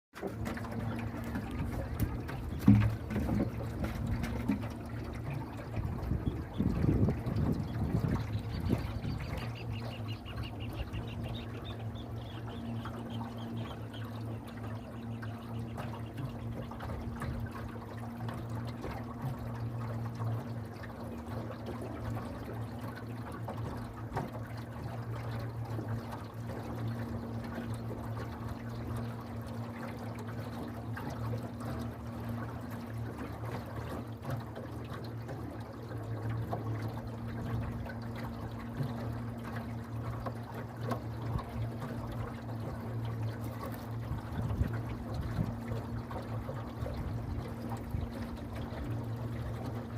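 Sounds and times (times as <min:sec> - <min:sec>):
steady low hum: 0:00.2 - 0:49.9
water pouring and trickling: 0:00.2 - 0:49.9.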